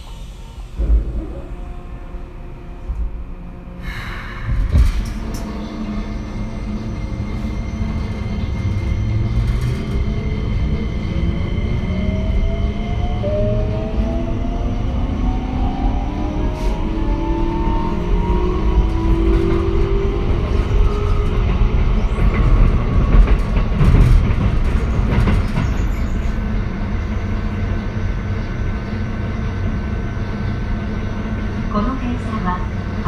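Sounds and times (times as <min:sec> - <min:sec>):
low train rumble: 0:00.0 - 0:33.0.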